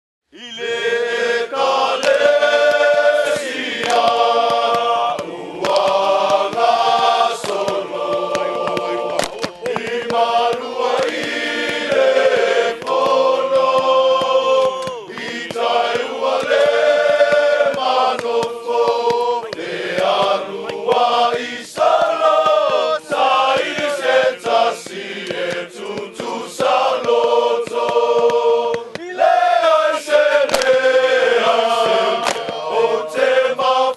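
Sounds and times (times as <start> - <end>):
choir of men singing: 0.4 - 33.9.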